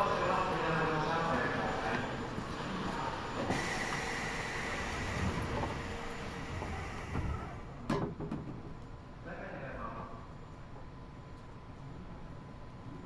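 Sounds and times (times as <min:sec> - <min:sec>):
subway car running noise: 0:00.0 - 0:13.0.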